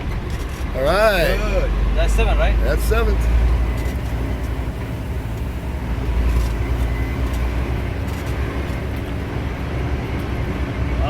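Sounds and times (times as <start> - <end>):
diesel truck engine running: 0.0 - 11.0
road noise: 0.0 - 11.0.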